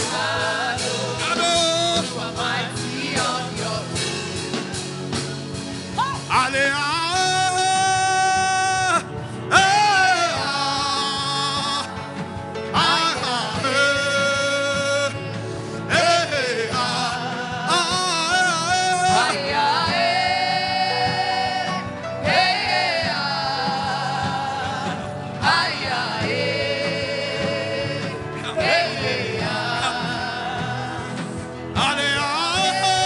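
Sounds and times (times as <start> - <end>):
steady musical accompaniment: 0.0 - 33.0.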